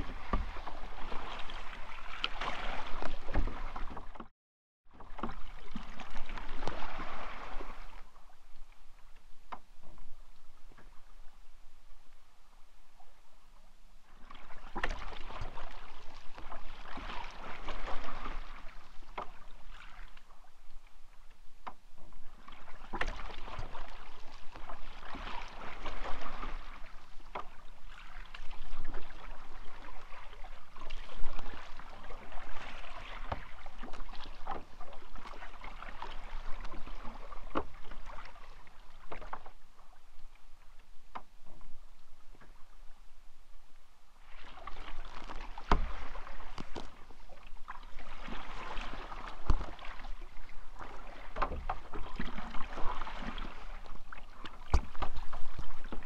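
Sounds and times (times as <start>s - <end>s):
paddle splashing in water: 0.0s - 4.3s, 4.9s - 56.0s.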